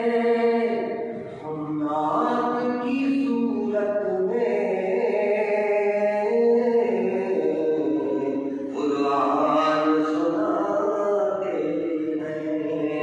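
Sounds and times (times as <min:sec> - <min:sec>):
vocal chanting: 0:00.0 - 0:13.0.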